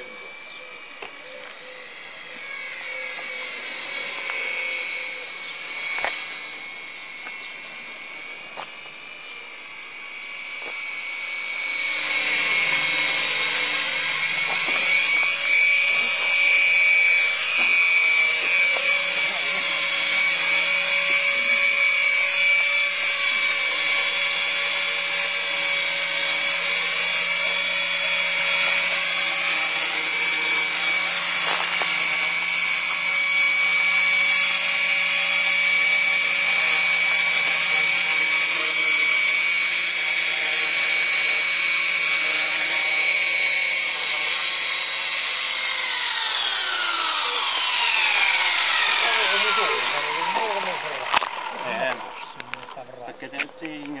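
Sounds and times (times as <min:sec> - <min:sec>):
rc helicopter motor whine: 0:00.0 - 0:54.0.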